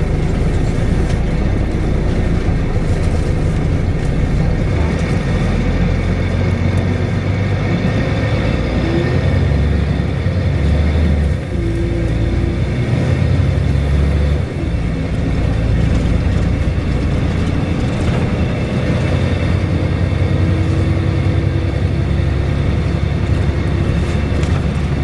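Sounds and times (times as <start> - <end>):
bus diesel engine drone: 0.0 - 25.0.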